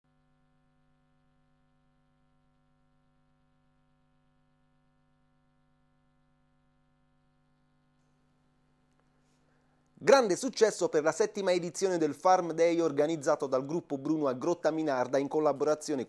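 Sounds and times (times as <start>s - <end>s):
faint electrical hum: 0.2s - 16.0s.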